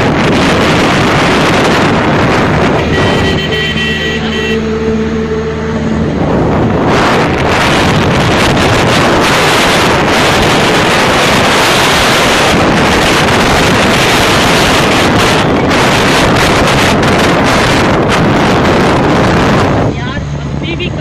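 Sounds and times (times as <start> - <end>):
faint engine hum: 0.0 - 11.5, 14.8 - 21.0
wind buffeting microphone: 0.0 - 21.0.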